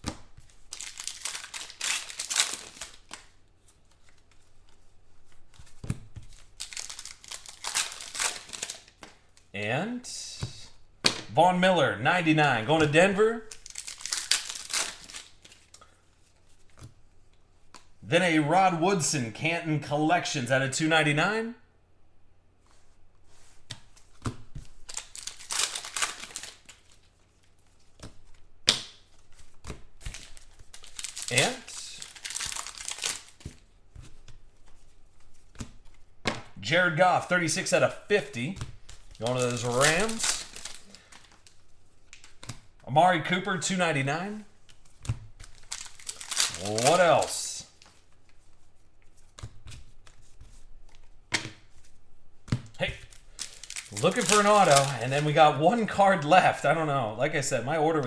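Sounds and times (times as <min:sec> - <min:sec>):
trading cards rustling: 0:00.4 - 0:09.5, 0:12.2 - 0:16.9, 0:22.7 - 0:36.1, 0:37.0 - 0:42.7, 0:43.6 - 0:52.0, 0:52.6 - 0:58.0.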